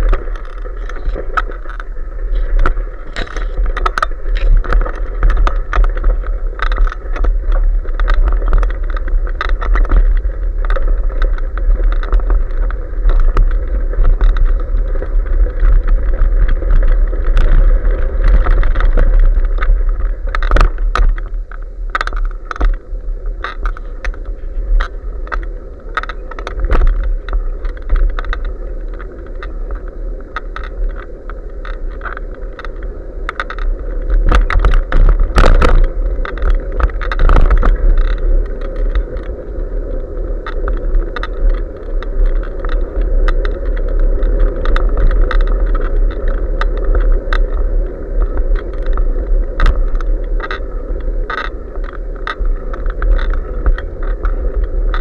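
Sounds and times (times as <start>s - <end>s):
bicycle tyre noise: 0.0s - 55.0s
bike clicks and rattles: 0.0s - 55.0s
wind on microphone: 0.0s - 55.0s.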